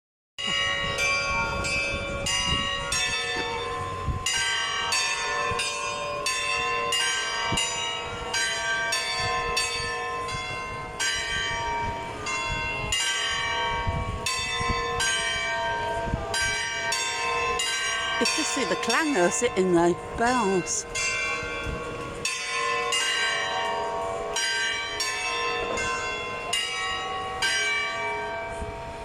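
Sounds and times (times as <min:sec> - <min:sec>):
church bells chiming: 0:00.4 - 0:29.0.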